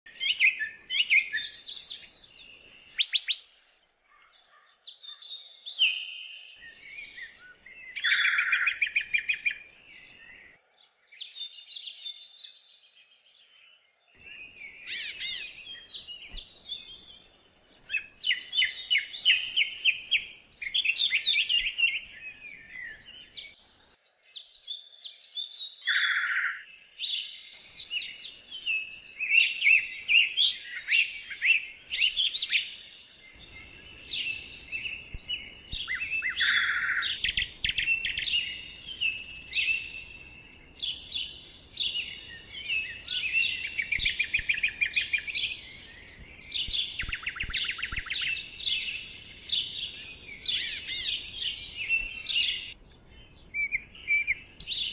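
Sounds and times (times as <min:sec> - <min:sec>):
birds chirping and trilling: 0:00.1 - 0:54.9.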